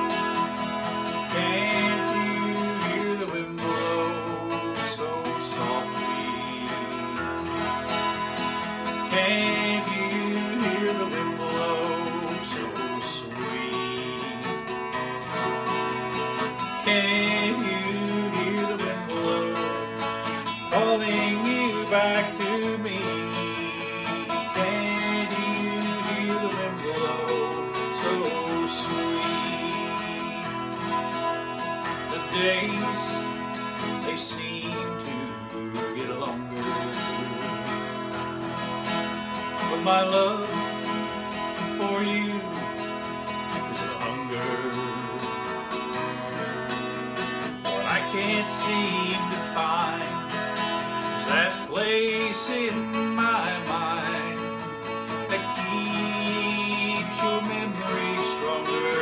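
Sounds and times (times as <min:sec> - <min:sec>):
acoustic guitar strumming: 0:00.0 - 0:59.0
man singing country song: 0:00.0 - 0:59.0.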